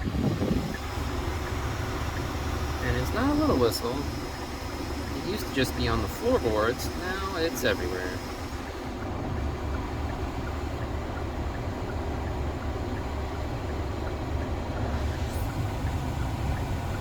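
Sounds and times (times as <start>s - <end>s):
blower rushing air: 0.0s - 17.0s
car engine rumble: 0.0s - 17.0s
constant air whistle: 0.0s - 17.0s.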